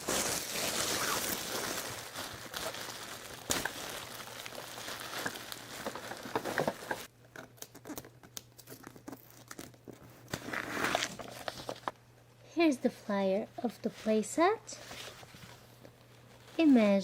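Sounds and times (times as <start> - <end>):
packaging crinkling and tearing: 0.0 - 12.0, 15.0 - 17.0.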